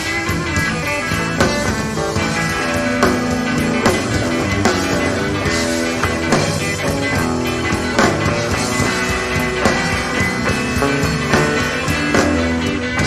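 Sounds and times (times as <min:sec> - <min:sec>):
rock band playing instrumental: 0:00.0 - 0:13.0.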